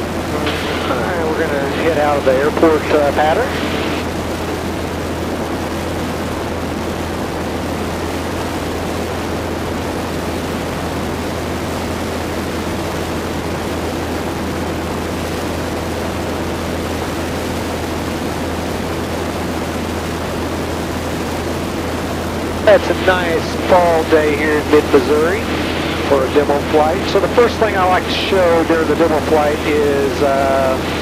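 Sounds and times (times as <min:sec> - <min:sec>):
light airplane engine droning: 0:00.0 - 0:31.0
rushing airflow: 0:00.0 - 0:31.0.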